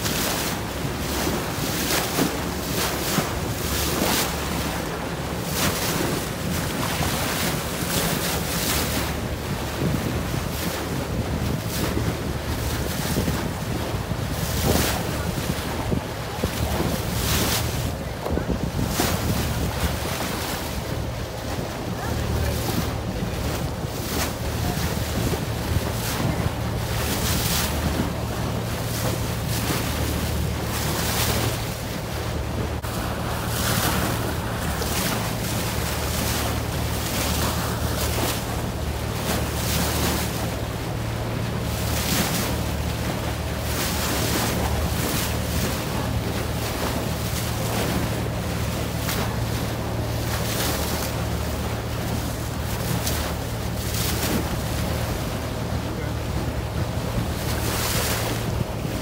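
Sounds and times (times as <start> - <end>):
boat engine running: 0.0 - 59.0
water splashing against hull: 0.0 - 59.0
wind buffeting microphone: 0.0 - 59.0.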